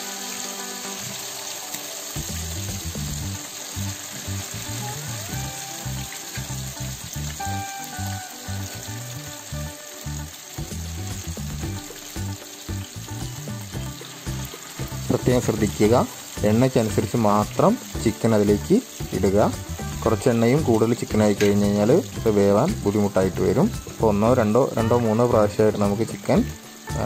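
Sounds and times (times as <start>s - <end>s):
background music with beat: 0.0s - 27.0s
chicken deep-frying in oil: 0.0s - 27.0s.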